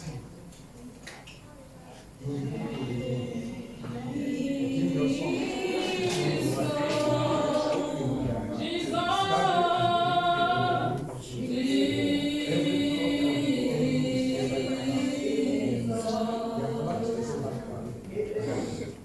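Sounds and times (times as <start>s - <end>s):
congregation singing unaccompanied: 2.2s - 18.3s.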